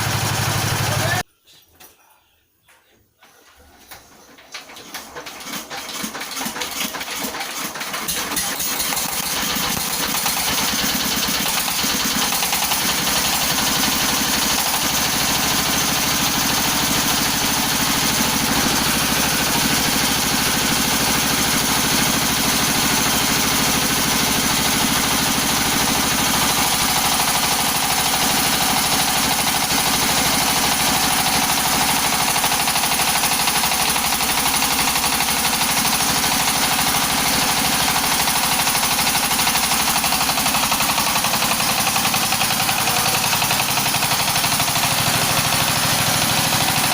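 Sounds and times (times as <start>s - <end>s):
feed pellet machine running: 0.0s - 1.3s, 3.9s - 46.9s.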